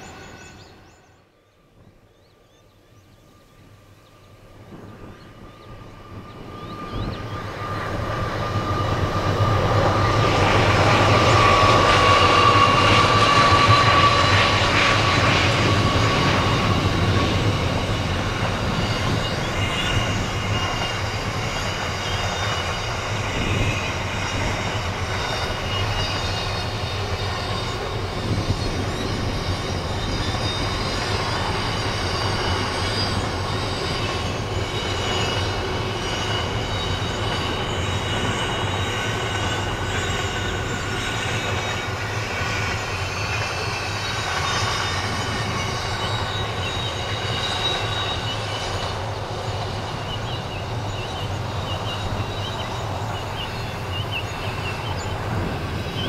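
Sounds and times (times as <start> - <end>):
train wheels rumbling on rail: 4.2 - 56.0
high-pitched wheel squeal: 8.4 - 56.0.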